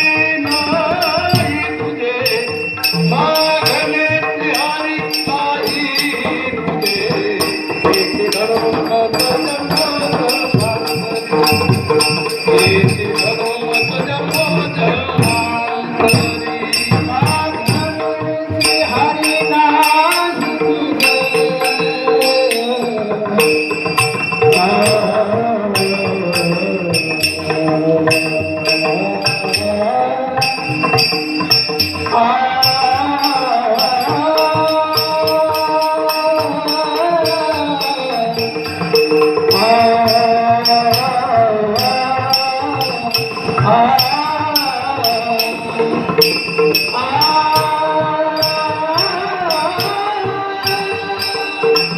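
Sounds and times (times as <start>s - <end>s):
devotional chant singing: 0.0s - 51.9s
small hand cymbals: 0.0s - 51.9s.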